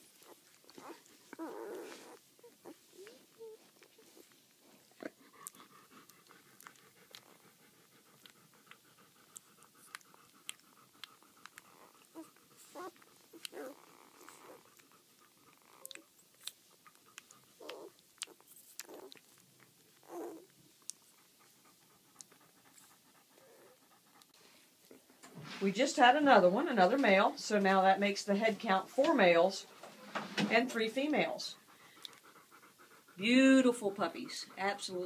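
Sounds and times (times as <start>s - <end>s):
puppies suckling wet clicks: 0.0s - 25.2s, 30.8s - 35.0s.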